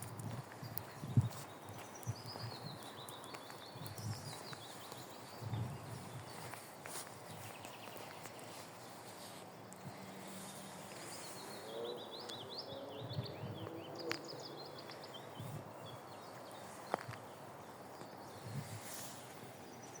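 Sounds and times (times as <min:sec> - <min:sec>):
outdoor background noise: 0:00.0 - 0:20.0
songbirds chirping: 0:00.0 - 0:20.0.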